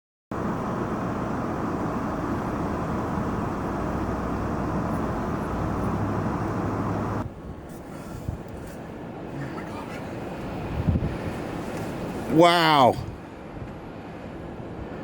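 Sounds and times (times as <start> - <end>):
low engine rumble: 0.3 - 15.0.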